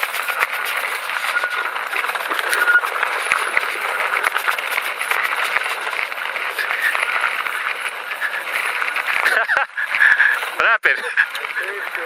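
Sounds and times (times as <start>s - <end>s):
bike rattling: 0.0s - 12.0s
bike tyres crunching over rocks: 0.0s - 12.0s.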